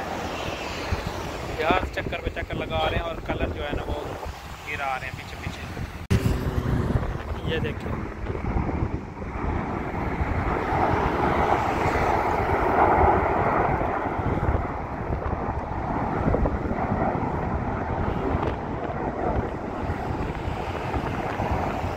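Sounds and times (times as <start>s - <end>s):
low-flying jets rushing past: 0.0s - 21.9s
wind buffeting microphone: 0.0s - 21.9s.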